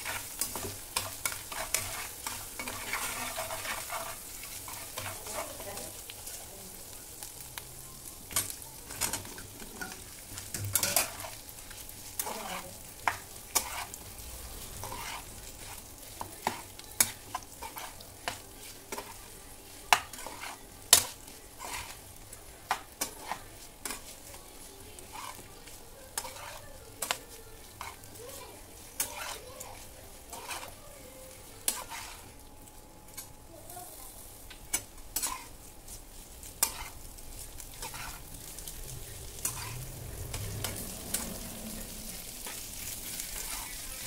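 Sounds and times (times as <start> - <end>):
spatula scraping and tapping pan: 0.0 - 6.4, 8.3 - 14.0, 14.8 - 32.4, 34.5 - 41.4, 42.2 - 44.0
oil sizzling in a frying pan: 0.0 - 44.0
potatoes tossed in a pan: 0.0 - 44.0.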